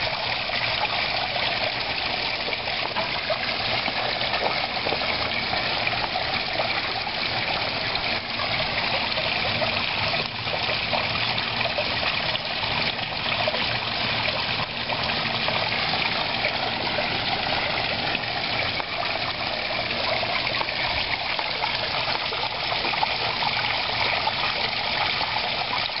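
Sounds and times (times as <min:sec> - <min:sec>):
waterfall splashing into pond: 0:00.0 - 0:26.0.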